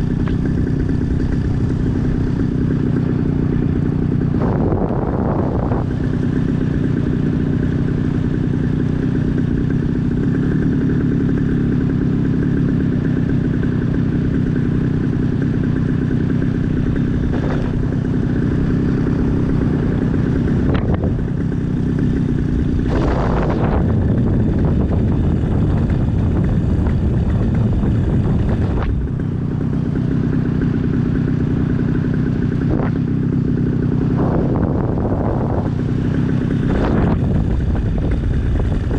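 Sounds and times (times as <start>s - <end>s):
small aircraft engine: 0.0s - 38.9s.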